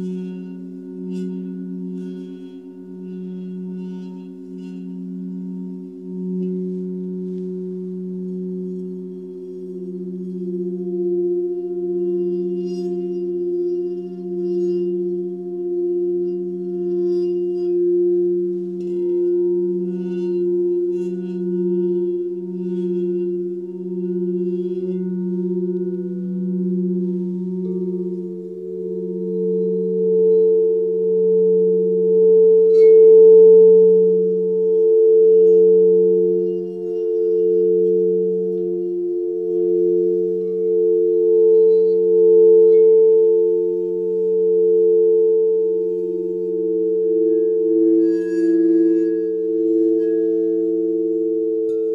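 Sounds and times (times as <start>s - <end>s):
higher singing bowl tone: 0.0s - 51.9s
singing bowls ringing: 0.0s - 51.9s.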